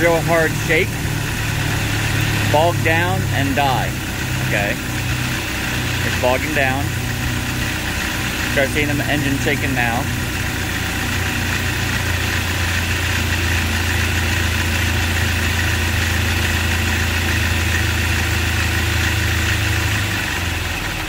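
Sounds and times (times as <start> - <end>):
engine idling roughly: 0.0 - 21.0.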